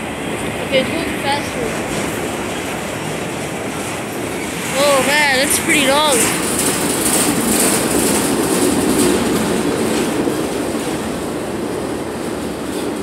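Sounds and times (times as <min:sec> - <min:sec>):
freight cars rumbling and rattling: 0:00.0 - 0:13.0.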